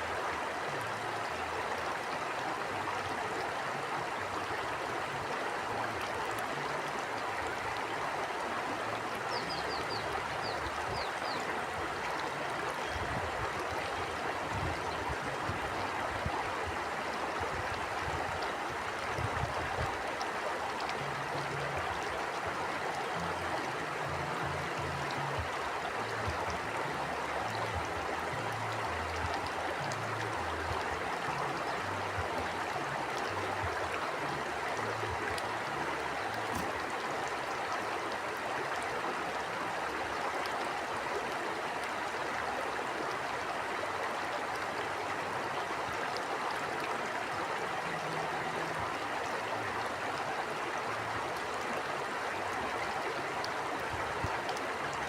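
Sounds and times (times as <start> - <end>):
rush of running water: 0.0 - 55.0.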